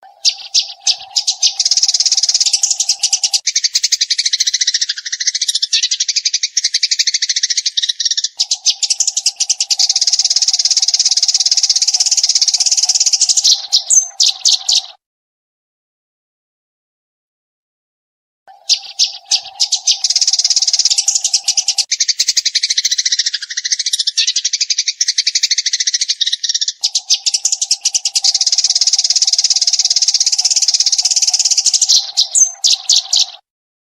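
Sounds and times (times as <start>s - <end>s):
sparrow chirping: 0.0s - 15.0s, 18.5s - 33.4s.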